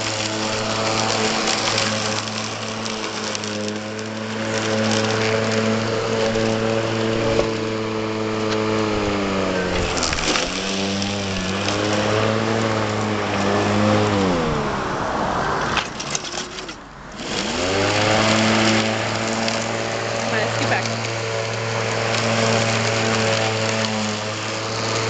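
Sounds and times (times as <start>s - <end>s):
robotic lawn mower humming: 0.0s - 25.0s.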